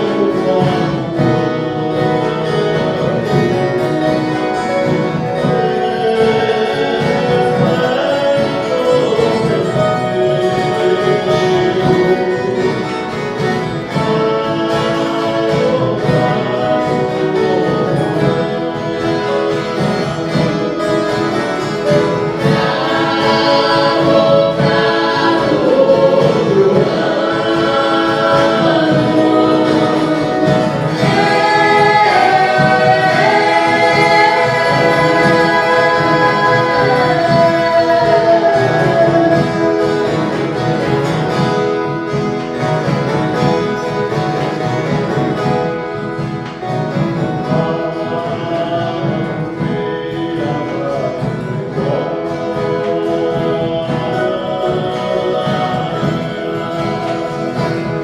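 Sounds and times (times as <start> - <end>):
choir singing held notes: 0.0 - 58.0
country guitars playing: 0.0 - 58.0.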